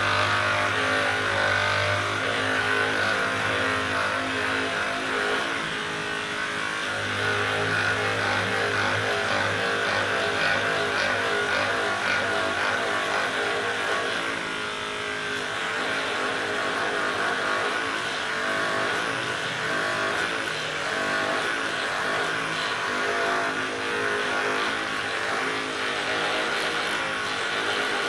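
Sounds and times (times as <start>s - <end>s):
massage gun motor buzz: 0.0s - 28.0s.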